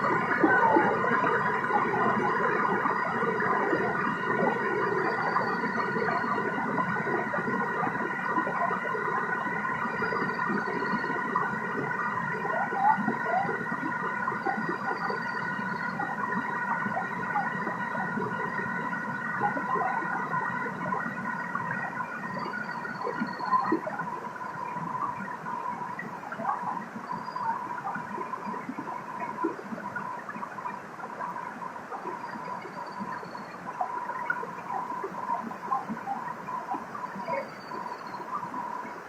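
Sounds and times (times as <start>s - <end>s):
high-pitched multi-tone hum: 0.0s - 39.0s.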